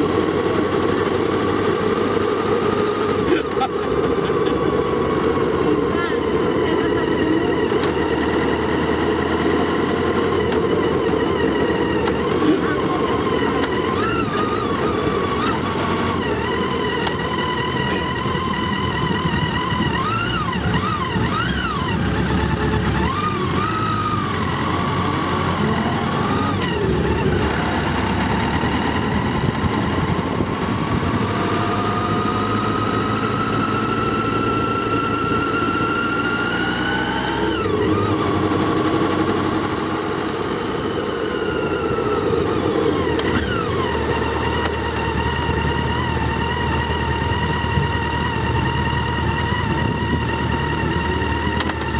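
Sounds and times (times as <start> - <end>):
motorcycle engines running: 0.0 - 51.9.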